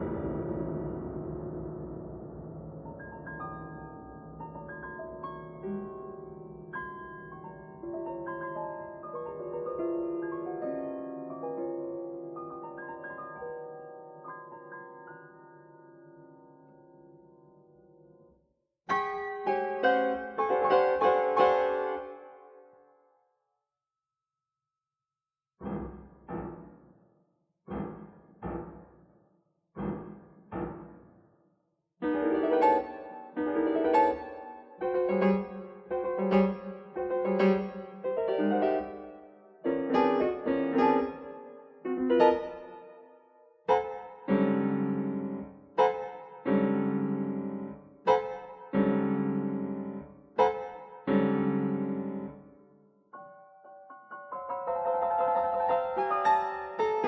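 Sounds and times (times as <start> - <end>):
loud piano chords: 0.0 - 22.8, 25.6 - 31.4, 32.0 - 57.0.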